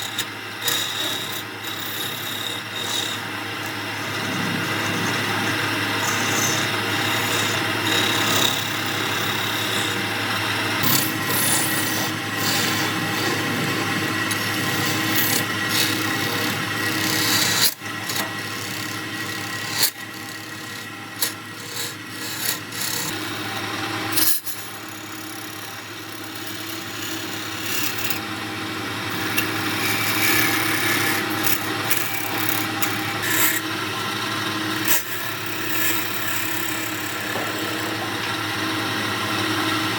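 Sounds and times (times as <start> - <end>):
wood lathe humming: 0.0 - 39.9.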